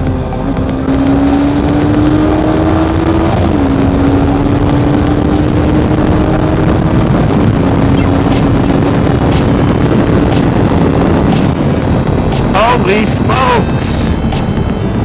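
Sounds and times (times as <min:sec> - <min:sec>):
motorcycle engine accelerating: 0:00.0 - 0:12.6.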